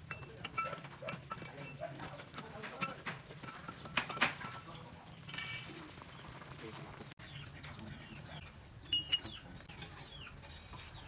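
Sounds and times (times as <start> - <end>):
coconut milk simmering: 0.0 - 11.0.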